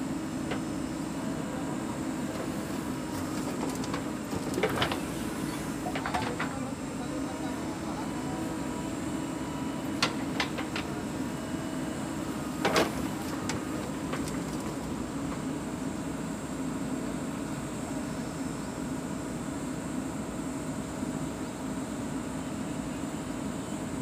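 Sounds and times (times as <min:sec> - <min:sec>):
diesel engine running under load: 0:00.0 - 0:21.1.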